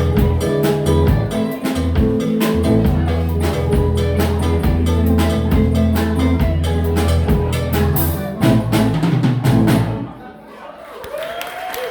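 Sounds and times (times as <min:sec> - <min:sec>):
acoustic guitar: 0:00.0 - 0:10.1
drum strokes: 0:00.0 - 0:10.2
bass guitar notes: 0:00.0 - 0:10.3.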